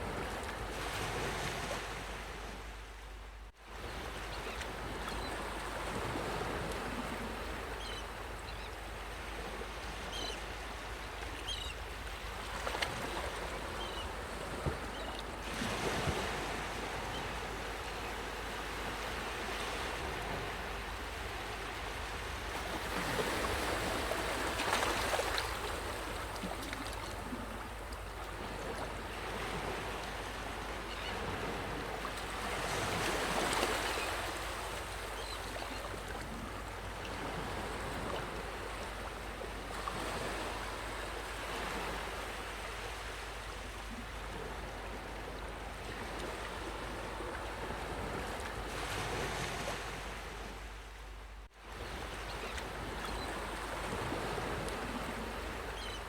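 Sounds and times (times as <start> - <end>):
waves washing onto beach: 3.7 - 50.7.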